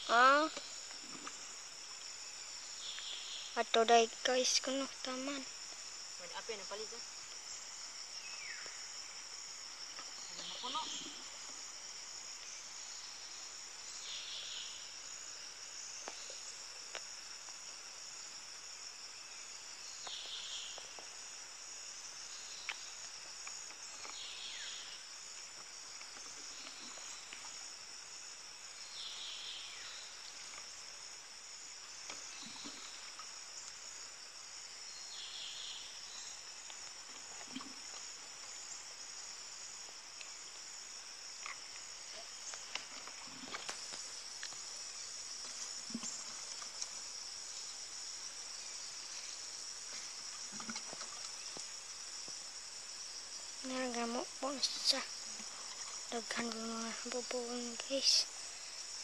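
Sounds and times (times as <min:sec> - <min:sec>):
loud insect chirp: 0:00.0 - 0:59.0
shrill insect chorus: 0:00.0 - 0:59.0.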